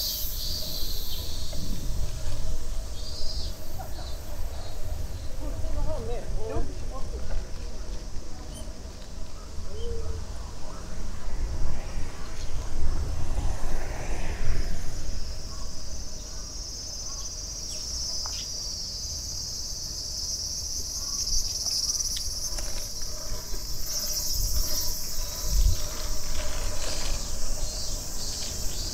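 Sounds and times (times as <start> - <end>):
cicadas buzzing: 0.0 - 28.9.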